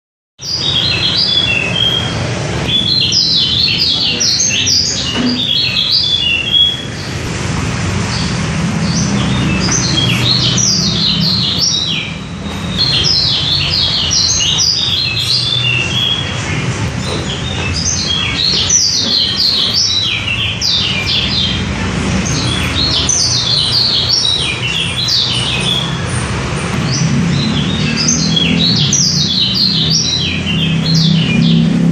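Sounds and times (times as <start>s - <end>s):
bird twittering song: 0.4s - 7.3s, 8.1s - 31.9s.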